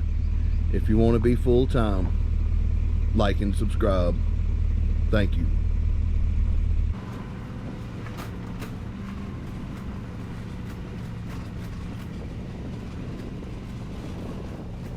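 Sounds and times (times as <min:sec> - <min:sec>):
engine rumble: 0:00.0 - 0:14.9.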